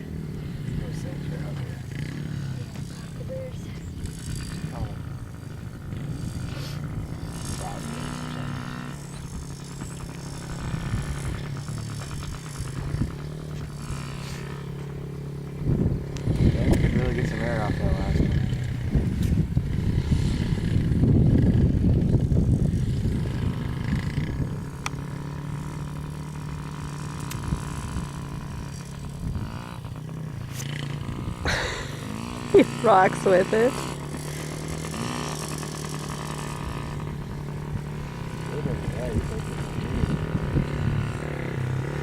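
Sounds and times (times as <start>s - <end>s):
dirtbike engine running: 0.0s - 42.0s.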